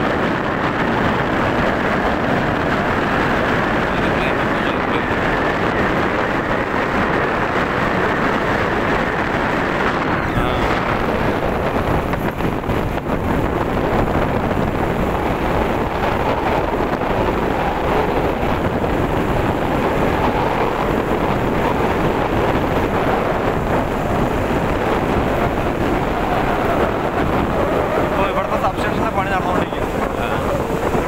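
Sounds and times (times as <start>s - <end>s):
motorcycle engine and tyre noise: 0.0s - 31.0s
wind on microphone: 0.0s - 31.0s.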